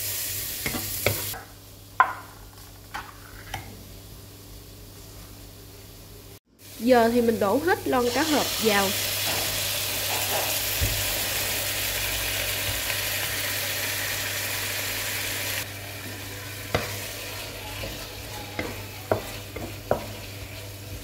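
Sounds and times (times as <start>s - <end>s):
food sizzling in a pan: 0.0s - 5.1s, 6.6s - 21.0s.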